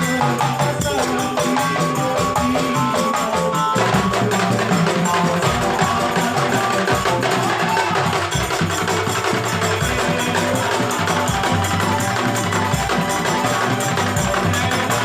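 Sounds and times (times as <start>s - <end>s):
busy percussion: 0.0s - 15.0s.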